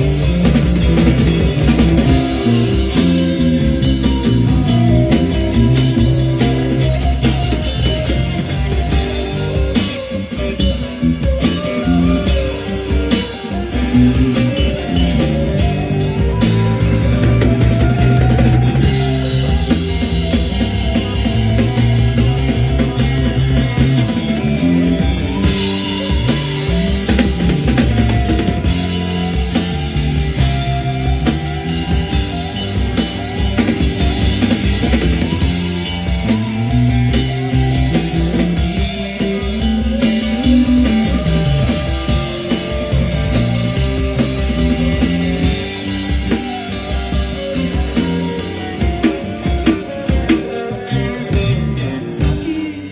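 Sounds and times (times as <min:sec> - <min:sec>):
drum kit: 0:00.0 - 0:52.9
guitar: 0:00.0 - 0:52.9
rock music: 0:00.0 - 0:52.9.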